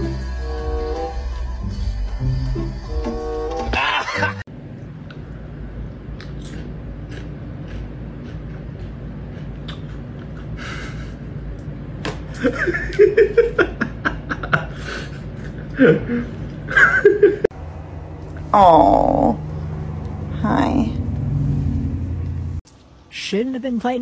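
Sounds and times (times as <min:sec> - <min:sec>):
low hum: 0:00.0 - 0:23.1.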